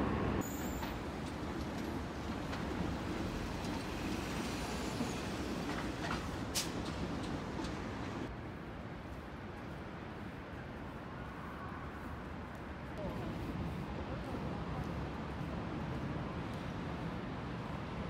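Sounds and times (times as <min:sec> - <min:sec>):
street traffic passing: 0:00.0 - 0:18.0.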